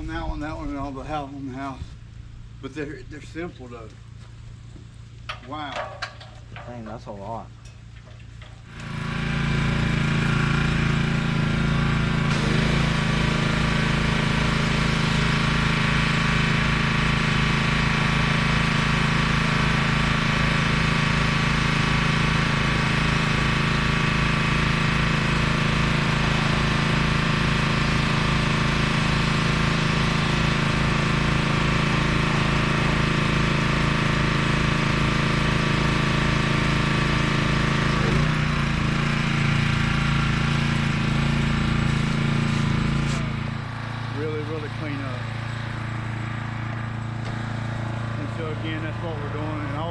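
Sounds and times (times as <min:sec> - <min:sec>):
pressure washer running: 0:00.4 - 0:49.9.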